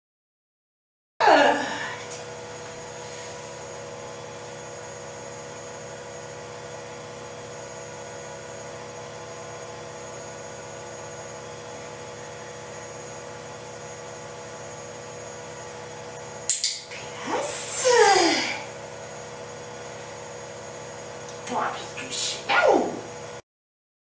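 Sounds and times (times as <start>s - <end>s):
steady hum with held tones: 1.2s - 23.4s.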